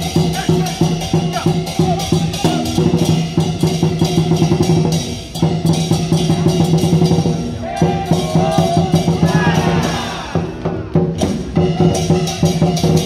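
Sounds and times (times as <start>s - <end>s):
cymbals crashing: 0.0s - 13.0s.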